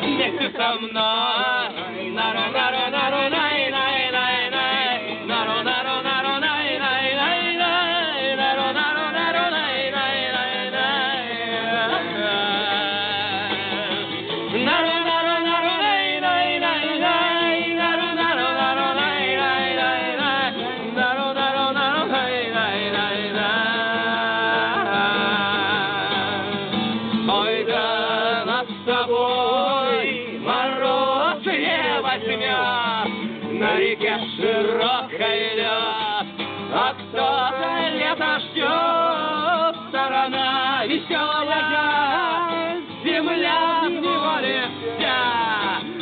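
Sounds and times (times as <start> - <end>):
acoustic guitar: 0.0 - 46.0
voices singing: 0.0 - 46.0.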